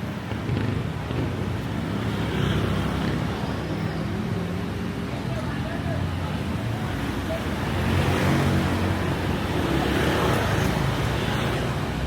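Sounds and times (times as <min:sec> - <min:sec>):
vehicles passing: 0:00.0 - 0:12.0.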